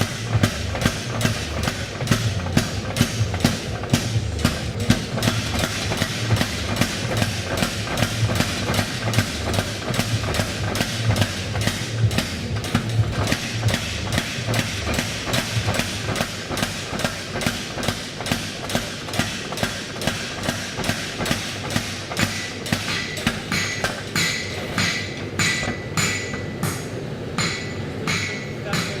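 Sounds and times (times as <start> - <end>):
hammer striking steel: 0.0 - 29.0.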